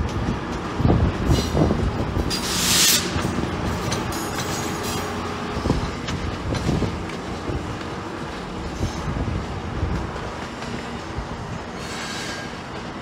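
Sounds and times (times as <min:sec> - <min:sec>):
diesel locomotive rumbling: 0:00.0 - 0:13.0
train wheels knocking over rail joints: 0:00.0 - 0:13.0.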